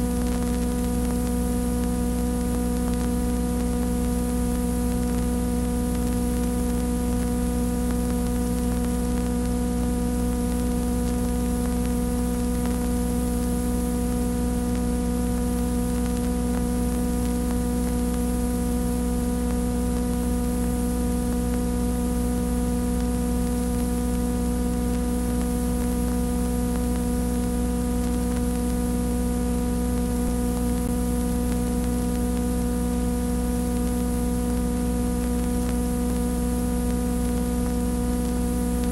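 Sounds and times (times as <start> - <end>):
buzzy electrical mains hum: 0.0 - 38.9
hiss and static: 0.0 - 38.9.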